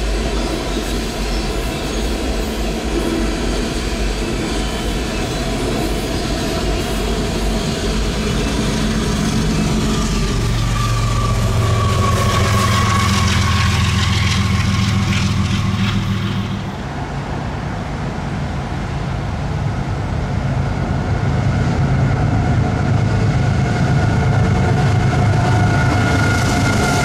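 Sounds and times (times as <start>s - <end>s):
diesel locomotive engines running: 0.0s - 27.0s.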